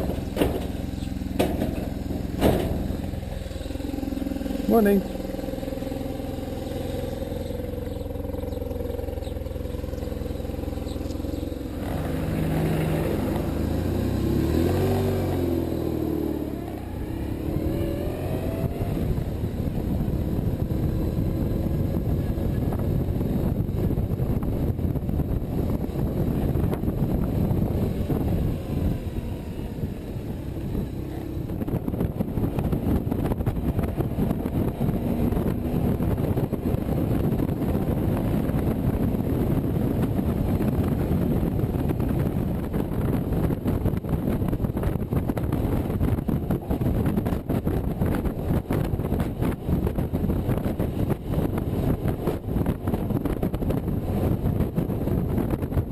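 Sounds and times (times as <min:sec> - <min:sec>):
motorcycle engine idling and revving: 0:00.0 - 0:55.9
road noise: 0:00.0 - 0:55.9
wind rush on microphone: 0:00.0 - 0:55.9.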